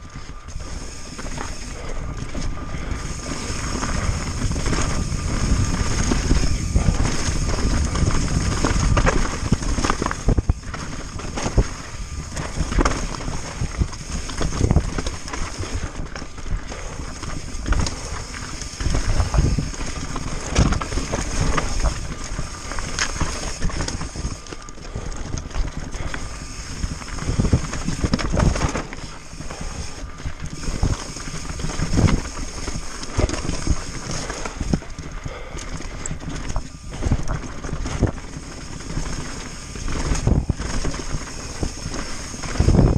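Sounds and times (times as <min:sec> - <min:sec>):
bike frame rattling and knocking: 0:00.0 - 0:42.9
tyres crunching over gravel: 0:00.0 - 0:42.9.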